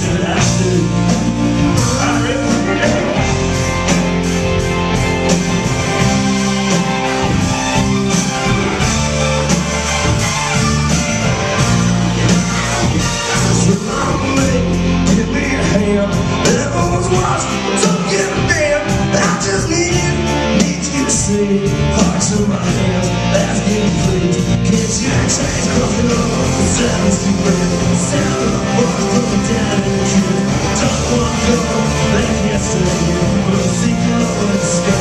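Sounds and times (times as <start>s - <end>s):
bass guitar: 0.0s - 35.0s
electric guitars: 0.0s - 35.0s
steady drum beat: 0.0s - 35.0s.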